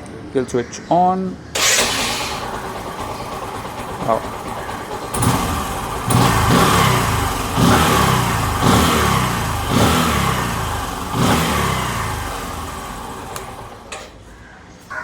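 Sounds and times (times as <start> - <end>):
motorcycle engine revving: 1.6 - 14.2.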